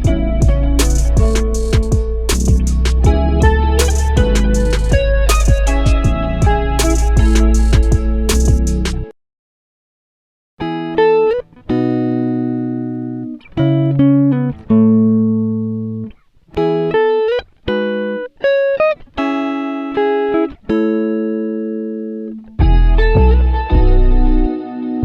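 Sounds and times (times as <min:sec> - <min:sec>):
plucked guitar: 0:00.0 - 0:09.1, 0:10.6 - 0:25.0.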